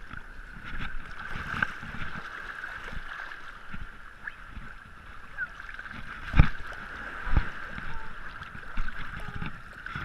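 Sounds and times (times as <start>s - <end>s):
seawater sloshing and gurgling: 0.0s - 10.0s
small waves knocking on camera: 0.0s - 10.0s.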